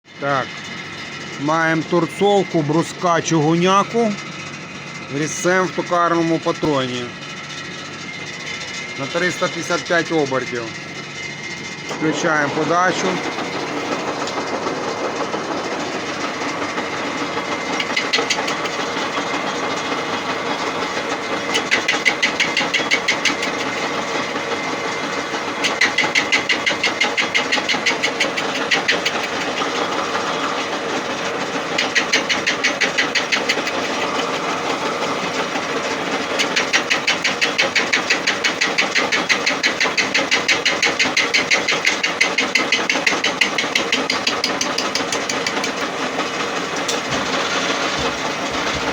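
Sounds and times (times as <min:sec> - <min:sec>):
lathe drone with high whine: 0:00.1 - 0:48.9
rapid knocking of cutting tool: 0:08.3 - 0:48.9.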